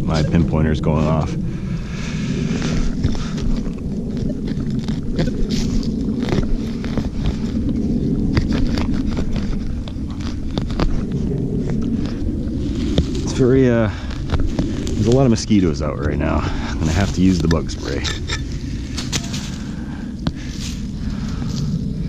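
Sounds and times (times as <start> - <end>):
wind rumbling on microphone: 0.0 - 22.0
digging in soil: 1.9 - 21.8.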